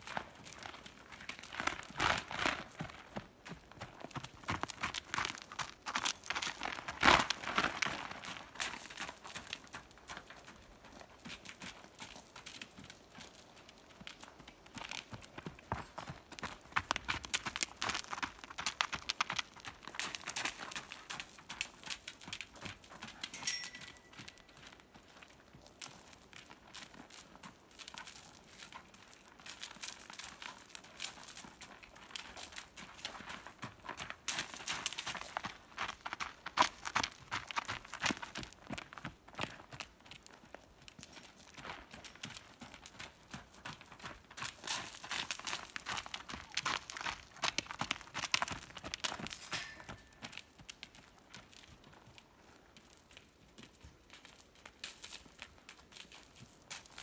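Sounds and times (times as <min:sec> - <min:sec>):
hoofbeats on gravel: 0:00.0 - 0:57.0.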